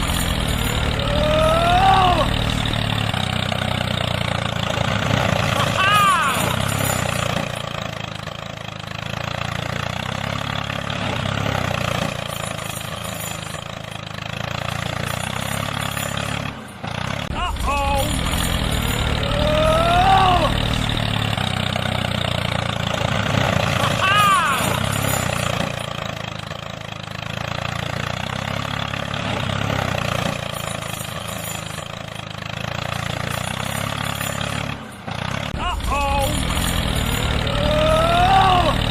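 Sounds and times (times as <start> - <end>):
small motor running: 0.0 - 10.9, 17.4 - 38.9.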